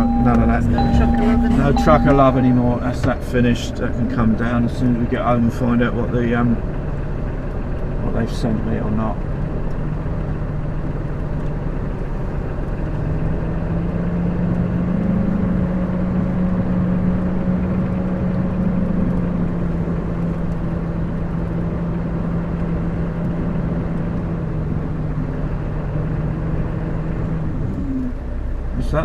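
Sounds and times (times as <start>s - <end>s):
lorry diesel engine running: 0.0s - 29.0s
road and cab noise: 0.0s - 29.0s.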